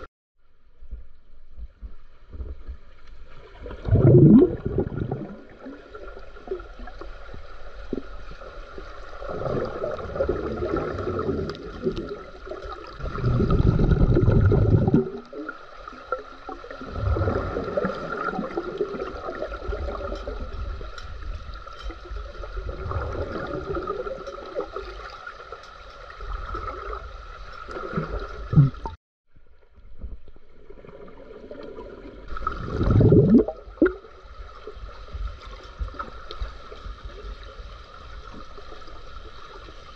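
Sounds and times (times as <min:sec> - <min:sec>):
underwater bubbles and swirling water: 0:00.0 - 0:39.9.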